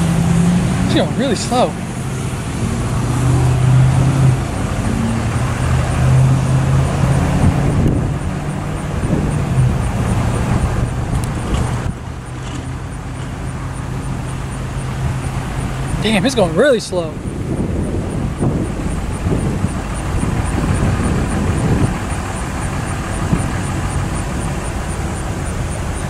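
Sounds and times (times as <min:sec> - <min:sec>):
diesel locomotive engine humming: 0:00.0 - 0:26.0.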